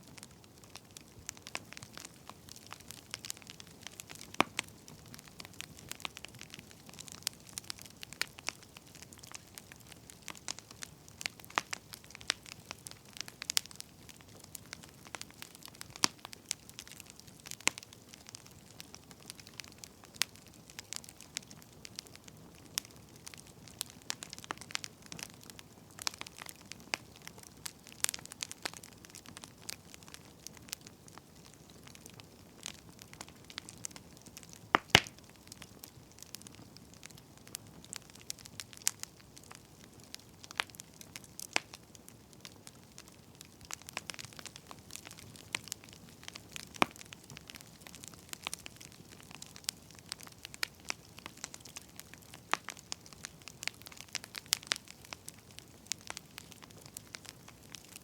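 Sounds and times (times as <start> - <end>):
hiss of burning logs: 0.0 - 58.0
wood fire crackling: 0.0 - 58.0.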